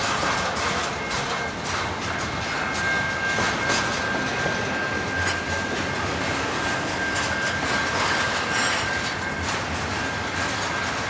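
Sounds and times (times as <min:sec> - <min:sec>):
high-pitched wheel squeal: 0:00.0 - 0:11.0
train wheels clacking over rail joints: 0:00.0 - 0:11.0.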